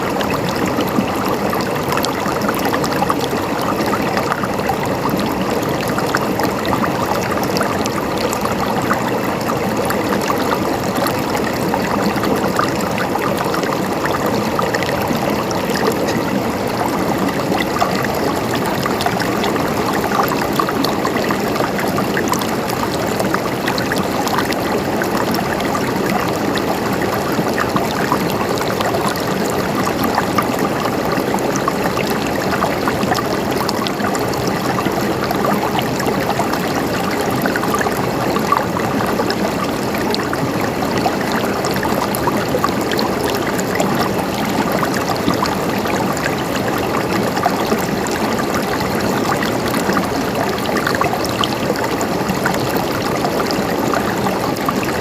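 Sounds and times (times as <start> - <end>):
water flowing over stones: 0.0 - 55.0.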